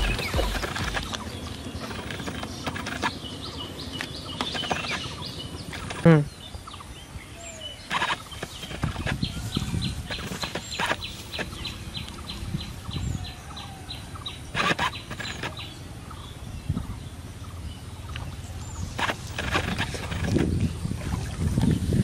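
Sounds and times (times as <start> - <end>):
bird chirping rapidly: 0.0 - 6.9, 7.5 - 20.9.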